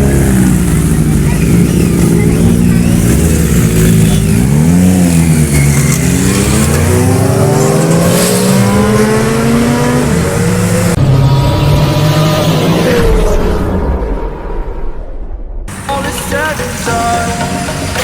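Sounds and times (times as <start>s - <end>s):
motorcycle engine revving: 0.0s - 14.3s, 15.6s - 18.0s.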